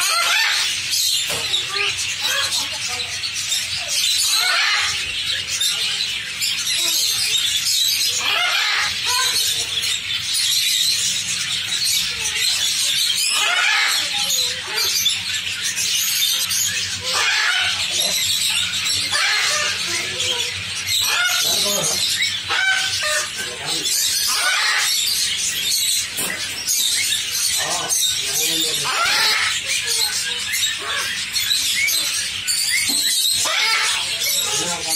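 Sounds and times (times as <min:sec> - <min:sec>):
caged birds chirping: 0:00.0 - 0:34.9.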